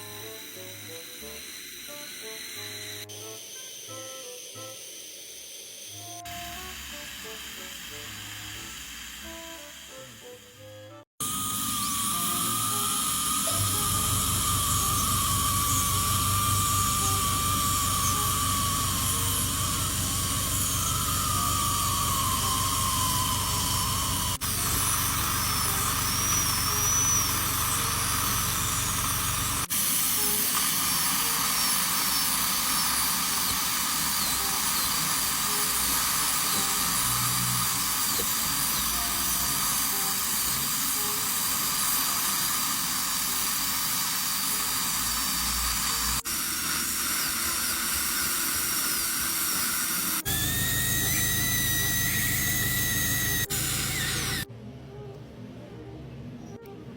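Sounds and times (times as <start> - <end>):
dental drill whining: 0.0 - 54.5.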